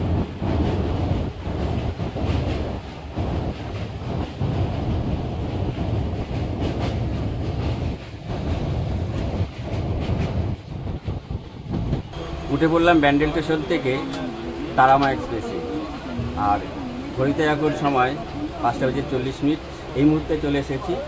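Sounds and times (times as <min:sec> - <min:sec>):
train wheels rumbling and rattling: 0:00.0 - 0:21.0.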